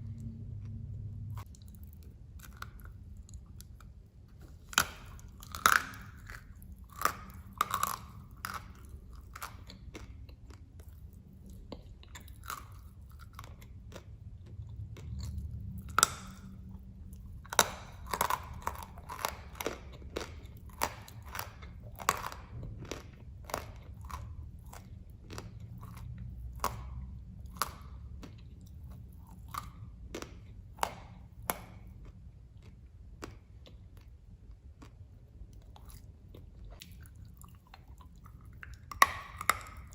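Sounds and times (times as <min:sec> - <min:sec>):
brittle crunches of chewing: 0:01.4 - 0:39.9.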